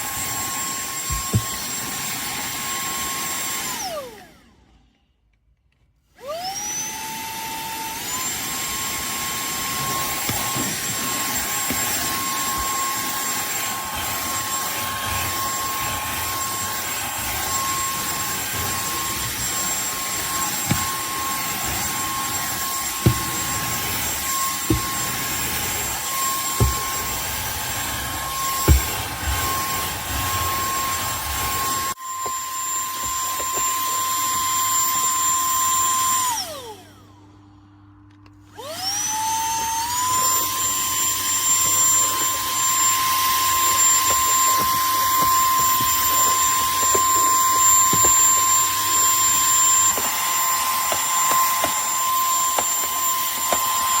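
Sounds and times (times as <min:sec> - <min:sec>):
handheld vacuum cleaner whine: 0:00.0 - 0:05.4, 0:06.0 - 0:54.0.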